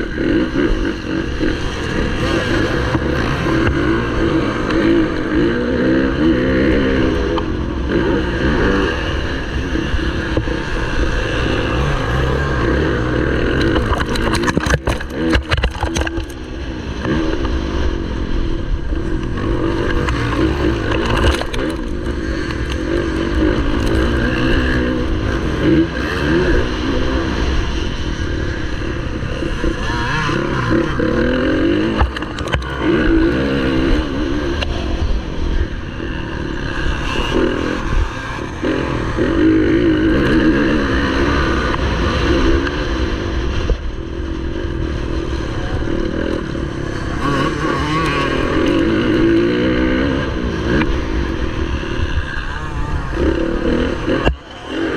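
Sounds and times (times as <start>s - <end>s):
motorbike engine revving: 0.0s - 54.9s.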